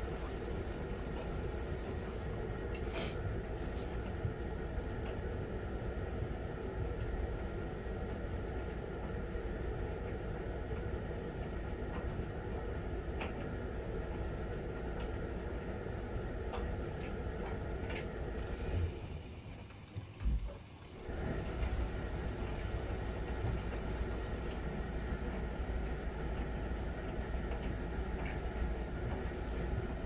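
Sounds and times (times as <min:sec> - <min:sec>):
washing machine motor and drum: 0:00.0 - 0:30.0.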